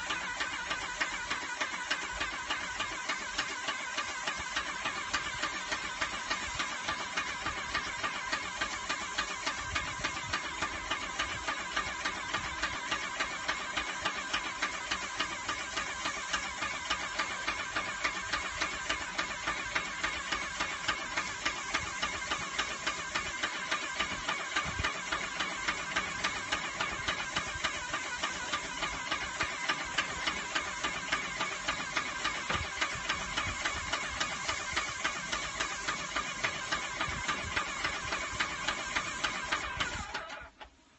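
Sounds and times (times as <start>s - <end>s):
paint sprayer pump pulsing: 0.0s - 40.8s.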